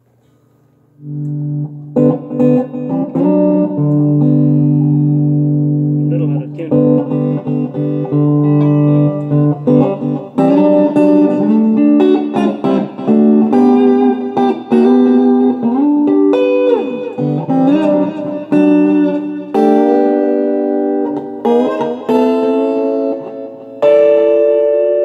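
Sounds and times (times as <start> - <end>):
clean electric guitar: 0.0 - 25.0.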